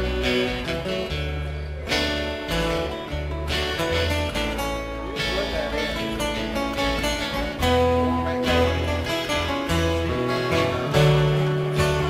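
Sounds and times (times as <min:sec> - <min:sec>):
acoustic guitars strumming: 0:00.0 - 0:12.0
low bass notes: 0:00.0 - 0:12.0.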